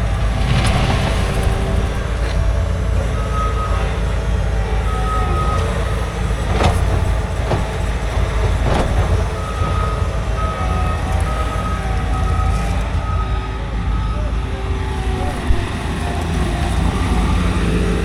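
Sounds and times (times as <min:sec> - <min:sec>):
heavy vehicle engine rumbling: 0:00.0 - 0:18.0
reversing alarm beeping: 0:00.0 - 0:18.0.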